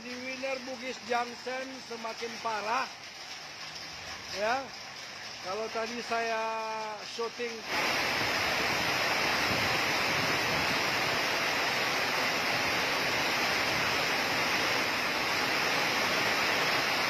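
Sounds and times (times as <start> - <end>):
floodwater rushing: 0.0 - 17.0
heavy rain: 0.0 - 17.0.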